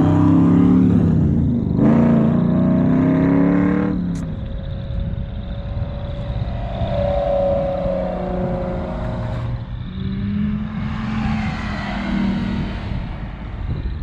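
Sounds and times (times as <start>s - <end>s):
cars driving by: 0.0s - 14.0s.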